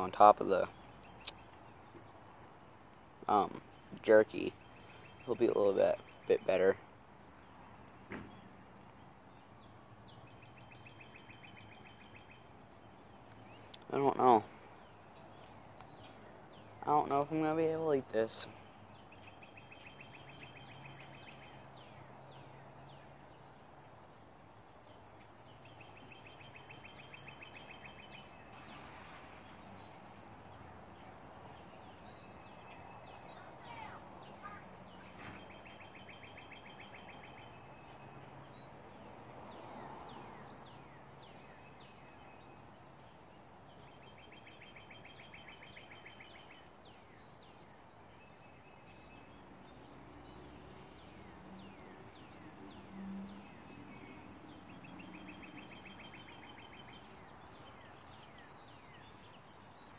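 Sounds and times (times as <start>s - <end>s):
bird chirps: 0.0s - 59.9s.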